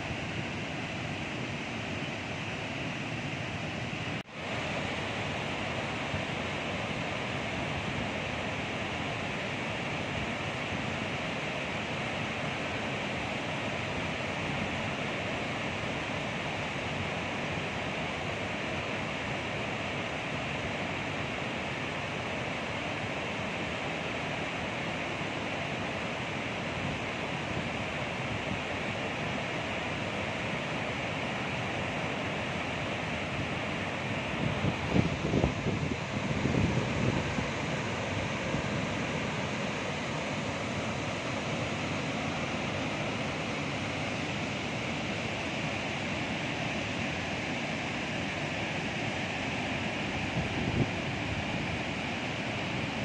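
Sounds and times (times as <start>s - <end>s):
floodwater rushing and crashing: 0.0s - 53.0s.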